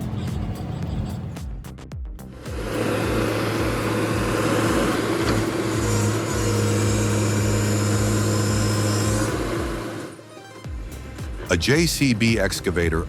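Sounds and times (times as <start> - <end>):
heavy vehicle engine humming: 0.0 - 1.7, 2.3 - 12.8.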